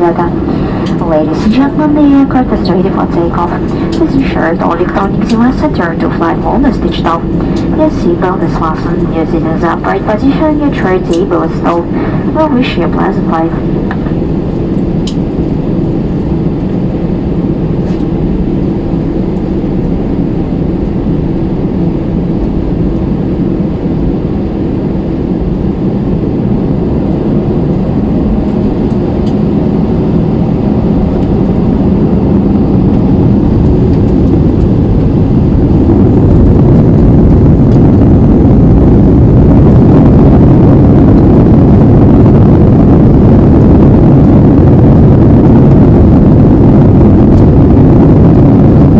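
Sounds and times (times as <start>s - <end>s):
jet engines rumbling in cabin: 0.0s - 48.9s.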